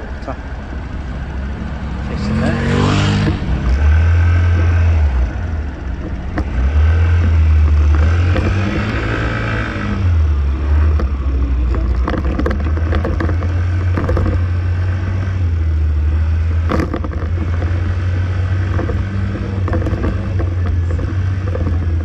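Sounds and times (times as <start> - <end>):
road noise: 0.0 - 22.0
scooter engine: 0.0 - 22.0
light rattles and clicks: 3.2 - 15.6, 16.5 - 22.0.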